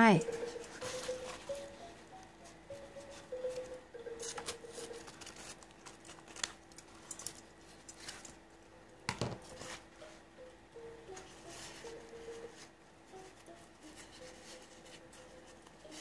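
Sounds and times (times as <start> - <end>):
paper tissue rustling: 0.2 - 8.3, 11.2 - 16.0.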